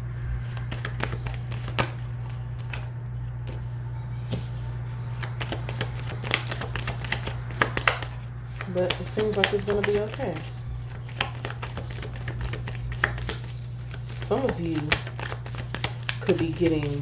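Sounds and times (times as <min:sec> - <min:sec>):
steady low hum: 0:00.0 - 0:17.0
cards being shuffled: 0:00.4 - 0:03.7, 0:04.3 - 0:17.0.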